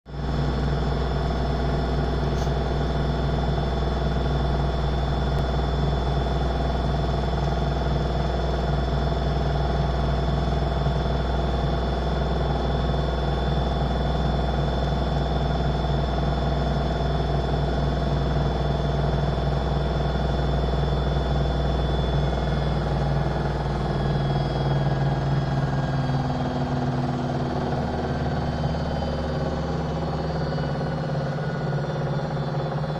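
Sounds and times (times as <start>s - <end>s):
washing machine spinning: 0.2s - 32.9s.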